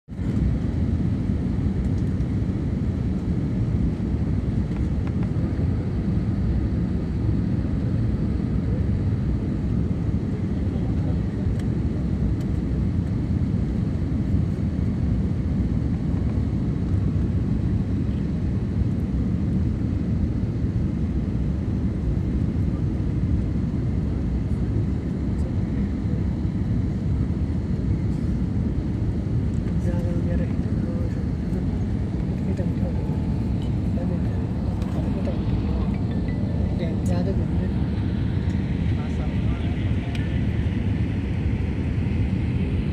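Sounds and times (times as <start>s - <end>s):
aircraft cabin engine drone: 0.1s - 42.9s.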